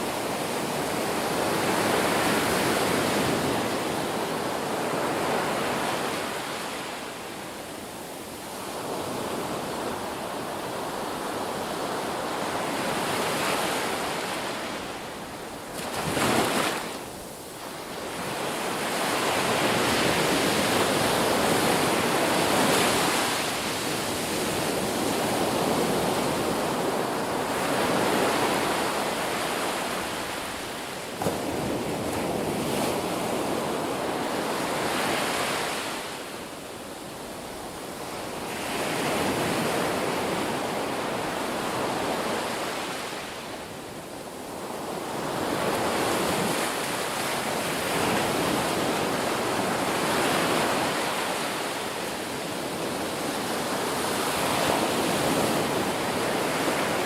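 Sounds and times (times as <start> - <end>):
ocean surf breaking on shore: 0.0 - 57.0.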